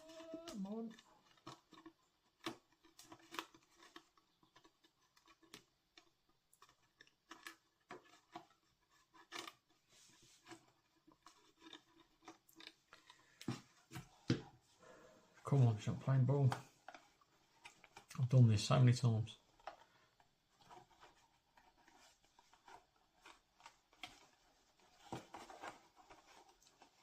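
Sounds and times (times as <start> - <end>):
cardstock clicks and rustles: 0.0 - 14.7, 15.5 - 27.0.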